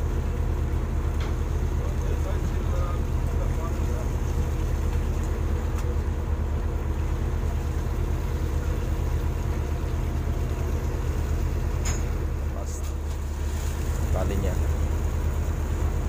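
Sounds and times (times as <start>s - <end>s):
boat engine low drone: 0.0s - 16.0s.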